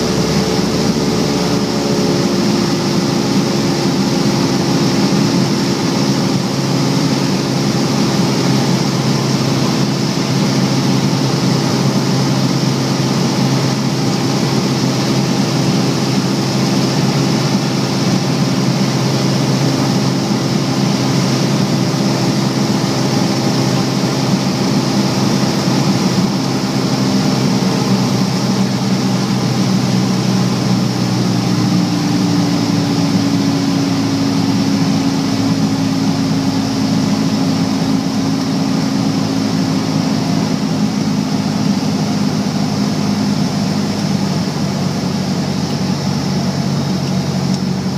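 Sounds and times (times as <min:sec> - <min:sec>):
propeller airplane engine droning: 0:00.0 - 0:47.9.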